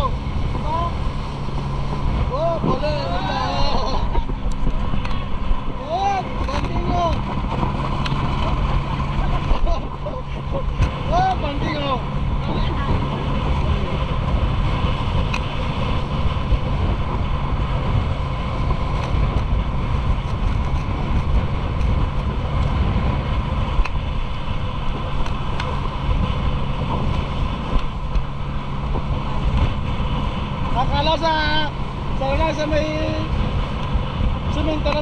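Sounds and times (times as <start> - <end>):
motorboat engine drone: 0.0 - 35.0
wind buffeting microphone: 0.0 - 35.0.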